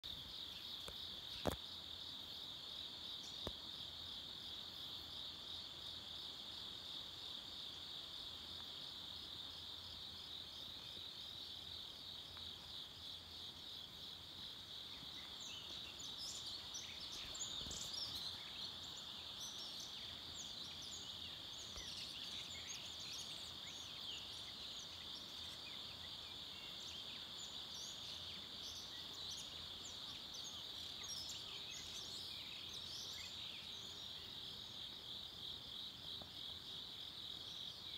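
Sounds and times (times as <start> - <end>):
crickets trilling: 0.0 - 37.9.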